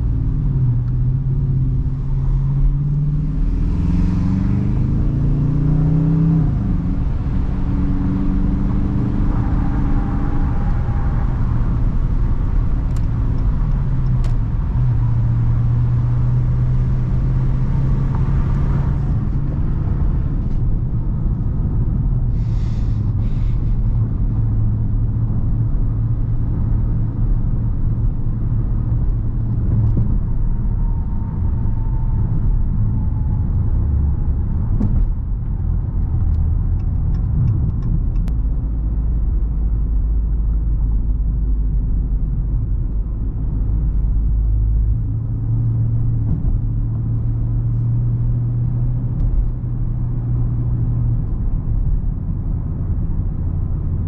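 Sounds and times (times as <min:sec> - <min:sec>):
car engine drone: 0:00.0 - 0:54.0
road rumble: 0:00.0 - 0:54.0.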